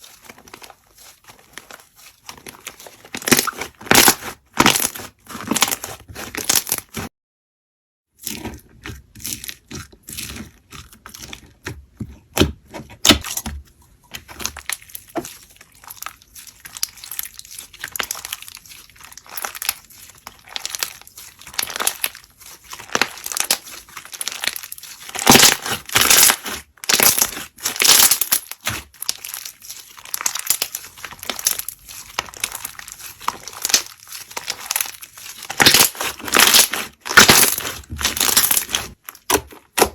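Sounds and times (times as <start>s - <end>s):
slime crackling and popping: 0.0s - 7.1s, 14.1s - 39.9s.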